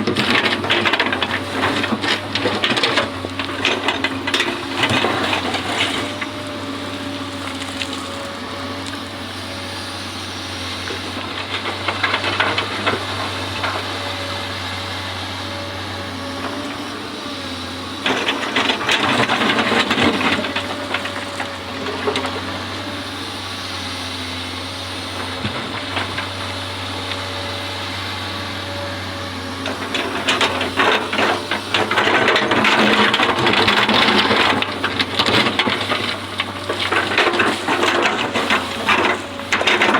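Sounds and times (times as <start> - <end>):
excavator engine running: 0.0 - 39.9
excavator rattling: 0.0 - 39.9.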